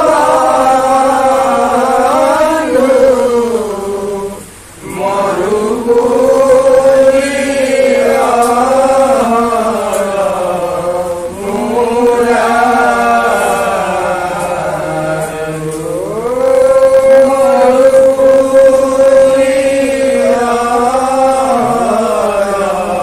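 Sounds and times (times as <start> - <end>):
men chanting together: 0.0 - 23.0.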